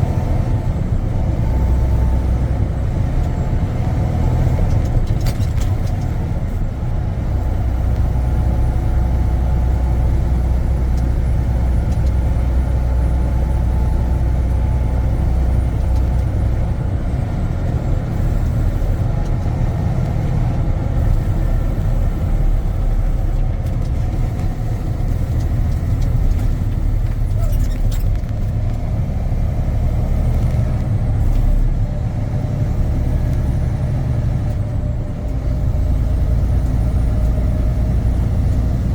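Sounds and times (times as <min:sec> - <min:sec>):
road noise: 0:00.0 - 0:38.9
truck diesel engine drone: 0:00.0 - 0:38.9.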